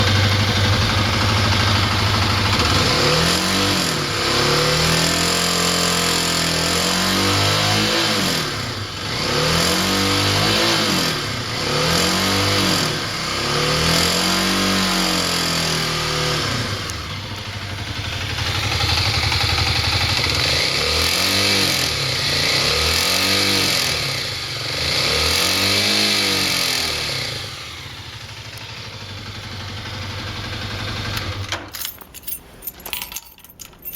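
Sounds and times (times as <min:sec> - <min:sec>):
motorcycle engine revving: 0:00.0 - 0:31.5.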